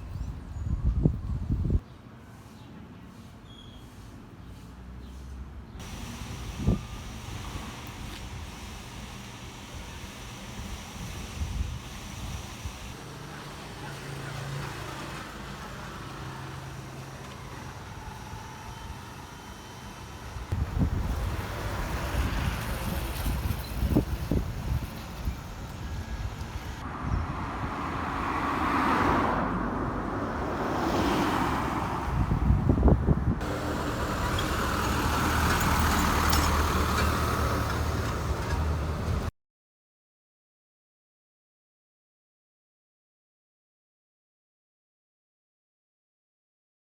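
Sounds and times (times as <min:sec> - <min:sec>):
street traffic rumble: 0:00.0 - 0:39.3.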